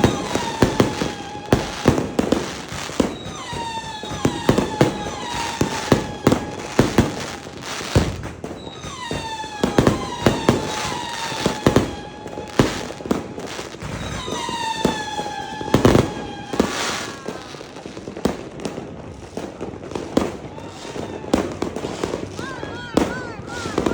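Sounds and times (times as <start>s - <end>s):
fireworks bangs and pops: 0.0s - 23.9s
fireworks whistles falling: 0.0s - 23.9s.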